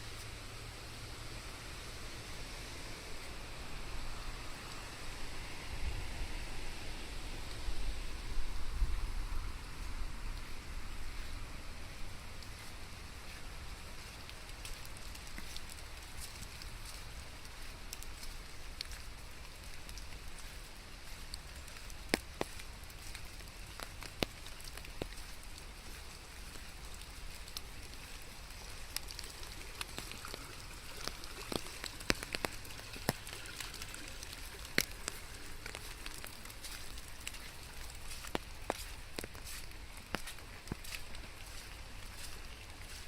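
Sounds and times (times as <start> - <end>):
close raindrops striking: 0.0 - 43.0
low steady rumble: 0.0 - 43.0
steady rain: 0.0 - 43.0.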